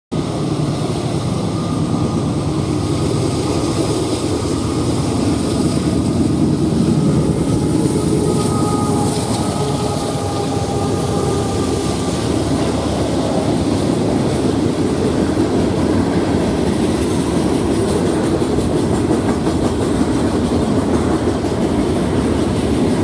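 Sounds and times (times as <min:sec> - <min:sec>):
diesel locomotive rumble: 0:00.1 - 0:23.0.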